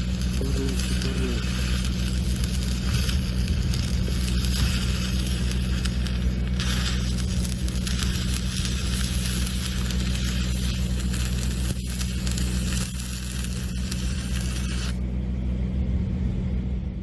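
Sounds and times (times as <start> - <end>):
welding arc sizzling crackle: 0.0 - 15.0
low machine hum: 0.0 - 17.0.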